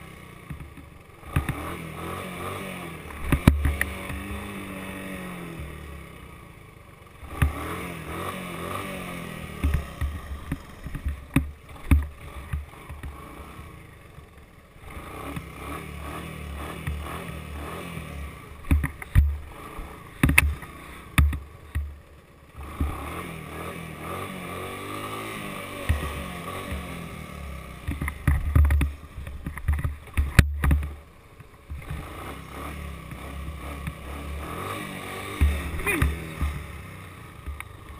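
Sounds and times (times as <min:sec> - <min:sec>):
engine revving: 0:00.0 - 0:14.1, 0:14.8 - 0:21.9, 0:22.5 - 0:31.0, 0:31.6 - 0:37.9.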